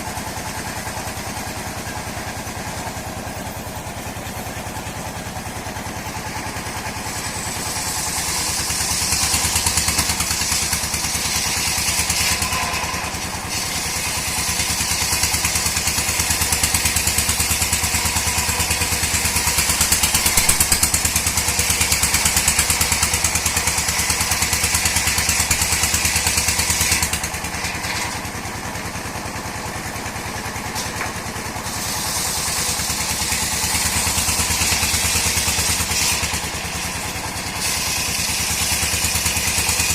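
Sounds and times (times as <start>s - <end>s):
sawmill engine chugging: 0.0s - 39.9s
saw cutting wood hiss: 0.4s - 39.9s.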